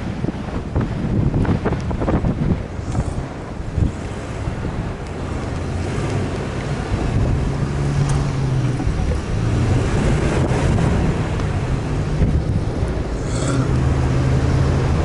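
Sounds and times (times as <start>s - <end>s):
vehicle engine humming: 0.0s - 15.0s
wind buffeting microphone: 0.0s - 15.0s.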